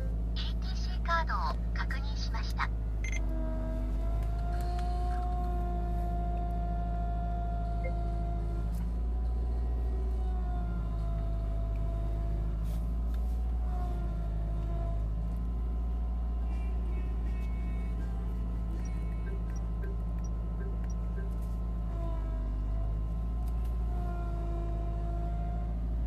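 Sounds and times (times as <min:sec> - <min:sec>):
car engine idling: 0:00.0 - 0:11.8, 0:12.8 - 0:23.8
power steering pump whine: 0:03.0 - 0:24.6.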